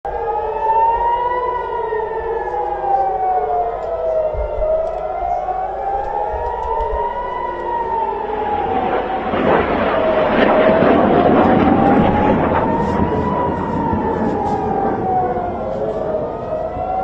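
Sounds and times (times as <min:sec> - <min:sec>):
air-raid sirens wailing: 0:00.0 - 0:17.0.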